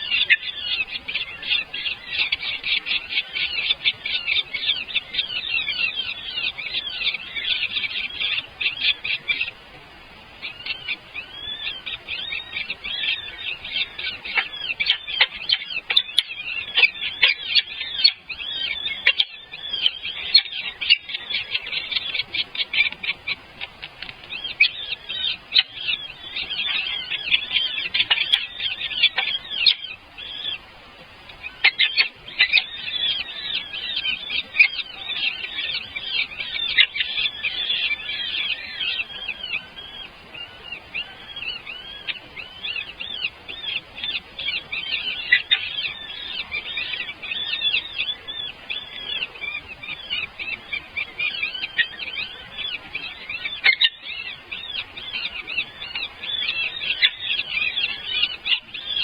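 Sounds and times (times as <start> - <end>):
baby birds chirping: 0.0 - 9.6, 10.3 - 30.6, 31.3 - 59.0.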